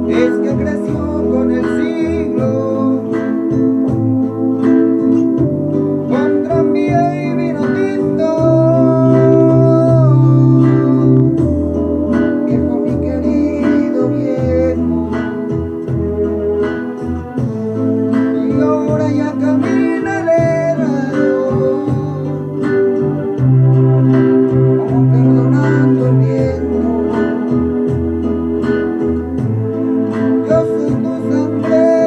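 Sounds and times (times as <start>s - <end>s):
man singing: 0.0s - 23.6s, 24.5s - 29.0s, 29.6s - 32.0s
acoustic guitar: 0.0s - 32.0s.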